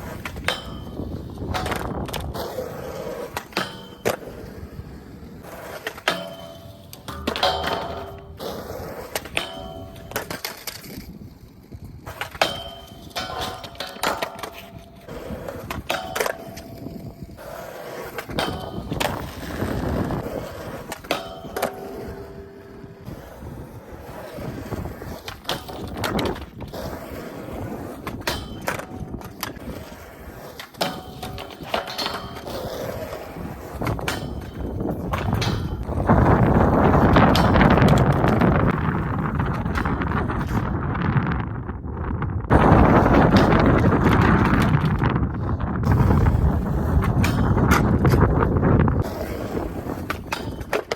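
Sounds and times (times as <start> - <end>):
skateboard clacking on ground: 0.0 - 50.9
skateboard rolling on pavement: 0.0 - 50.9.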